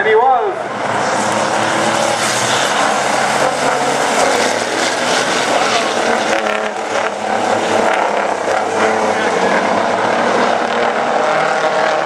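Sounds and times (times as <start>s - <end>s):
truck engines racing: 0.0s - 12.0s.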